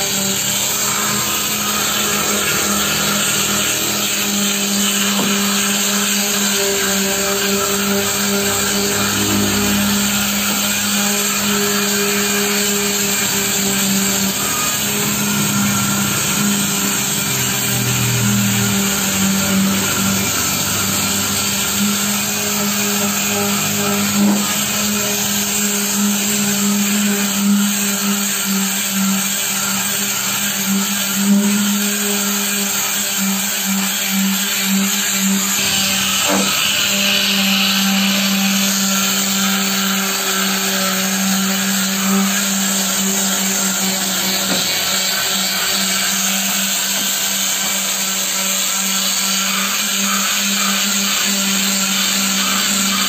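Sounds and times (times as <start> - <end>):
palm sander on metal: 0.0 - 53.0.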